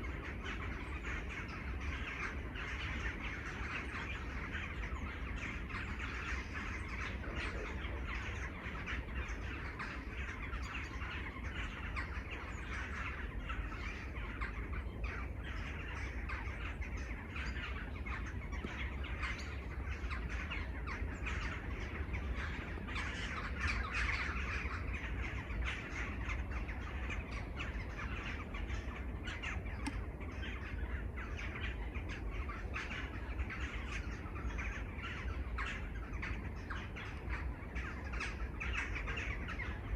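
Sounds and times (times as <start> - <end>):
chorus of birds calling: 0.0 - 39.9
steady low rumble: 0.0 - 39.9.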